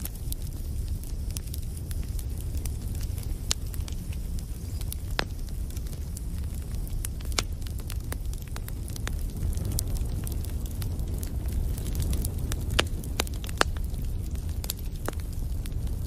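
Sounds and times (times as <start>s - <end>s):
rumble of flames: 0.0s - 16.0s.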